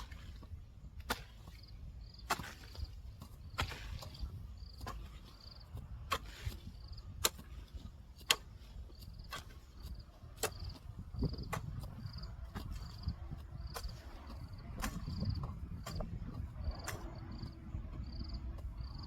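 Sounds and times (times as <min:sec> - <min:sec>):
hoe chopping into soil: 0:00.0 - 0:19.0.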